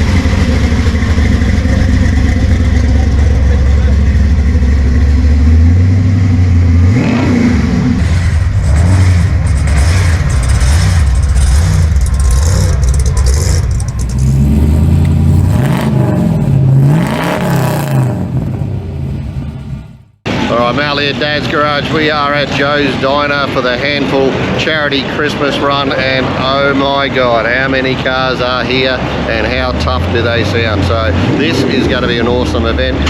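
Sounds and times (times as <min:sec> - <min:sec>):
car engines idling and revving: 0:00.0 - 0:33.0.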